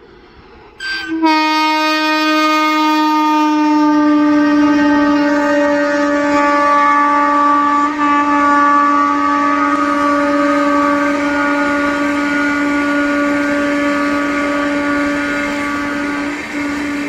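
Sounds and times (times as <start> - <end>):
locomotive horn blast: 0.8 - 17.0.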